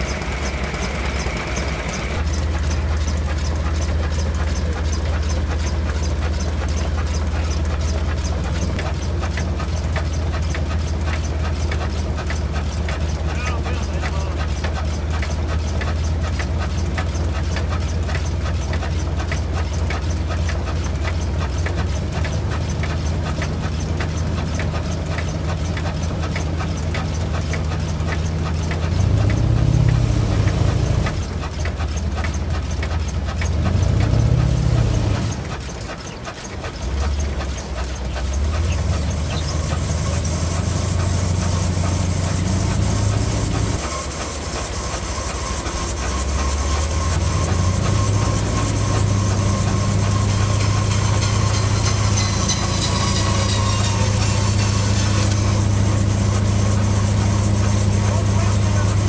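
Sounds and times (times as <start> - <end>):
stationary engine running: 0.0 - 59.0.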